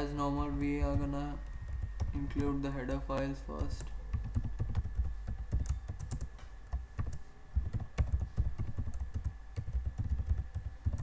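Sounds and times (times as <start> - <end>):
typing on computer keyboard: 0.5 - 11.0.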